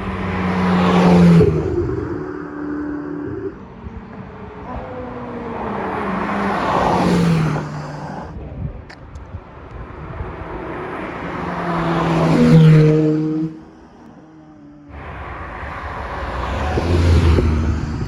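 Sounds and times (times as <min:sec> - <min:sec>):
sports cars driving past: 0:00.0 - 0:18.0.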